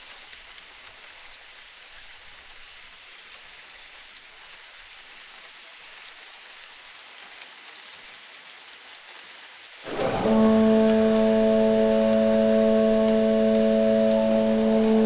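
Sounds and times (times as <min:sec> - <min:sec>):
rain-like water hiss: 0:00.0 - 0:15.0.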